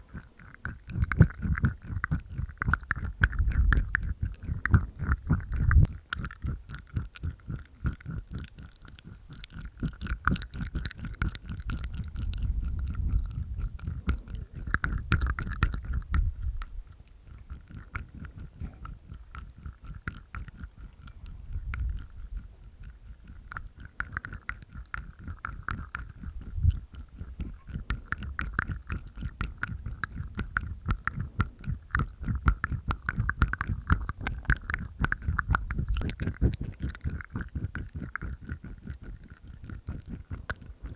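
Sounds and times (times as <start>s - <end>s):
teeth tapping: 0.0s - 40.9s
wet tongue clicks and smacks: 0.0s - 40.9s.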